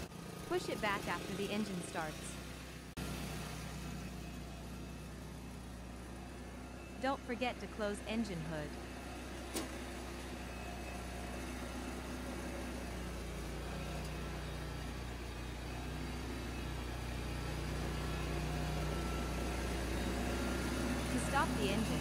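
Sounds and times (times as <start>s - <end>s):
petrol engine running: 0.0s - 22.0s.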